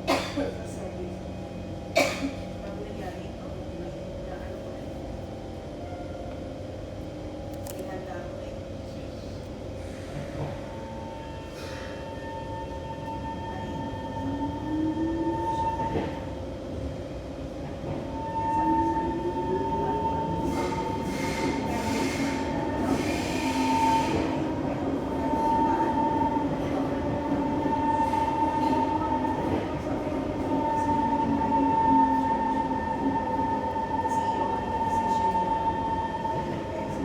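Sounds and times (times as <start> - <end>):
train rumbling in tunnel: 0.0 - 37.0.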